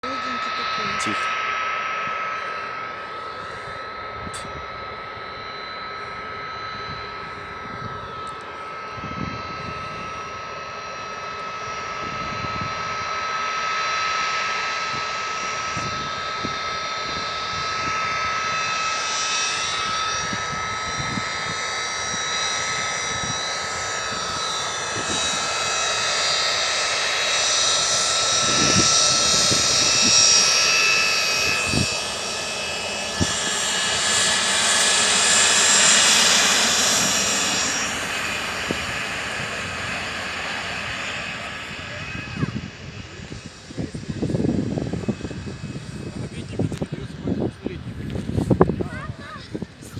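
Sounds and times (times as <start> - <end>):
airliner engines whining: 0.0 - 49.9.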